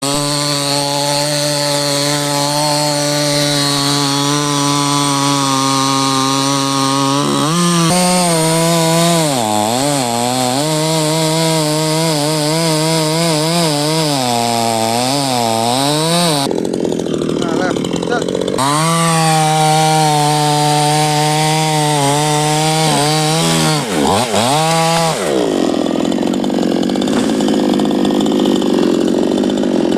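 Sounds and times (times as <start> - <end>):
chainsaw cutting wood: 0.0 - 29.9.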